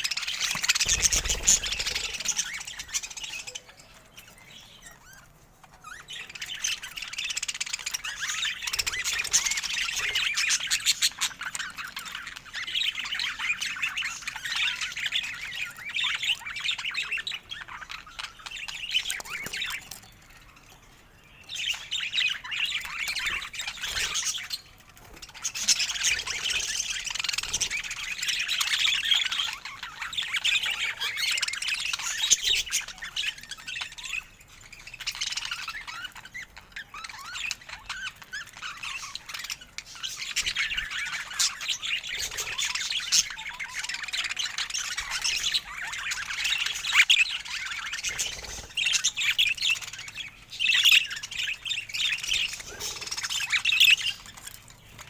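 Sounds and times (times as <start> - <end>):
budgerigars chattering: 0.0 - 20.7, 21.4 - 55.0.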